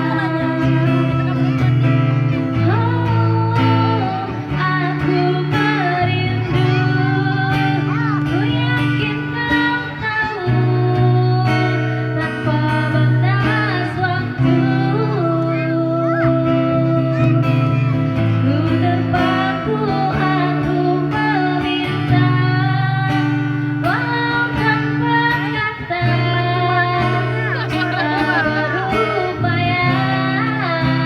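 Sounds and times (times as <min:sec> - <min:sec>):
person singing wavering notes: 0:00.0 - 0:31.0
plucked guitar: 0:00.0 - 0:31.0.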